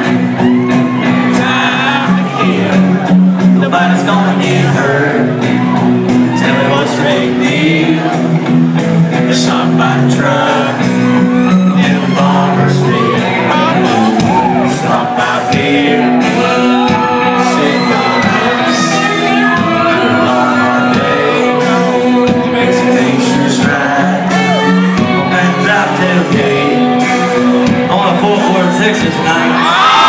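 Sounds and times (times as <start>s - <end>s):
crowd shouting and singing: 0.0s - 30.0s
live rock band playing: 0.0s - 30.0s
man singing: 1.0s - 30.0s.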